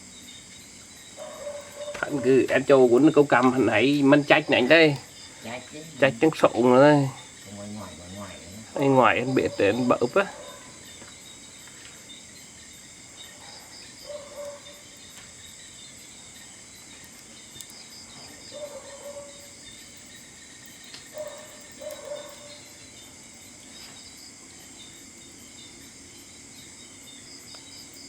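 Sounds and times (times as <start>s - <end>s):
crickets and insects chirping: 0.0s - 28.0s.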